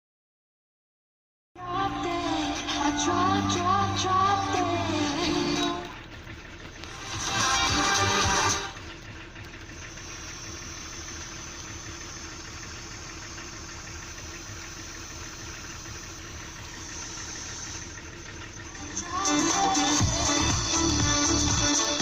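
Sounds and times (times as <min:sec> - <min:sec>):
engine idling: 0:01.6 - 0:22.0.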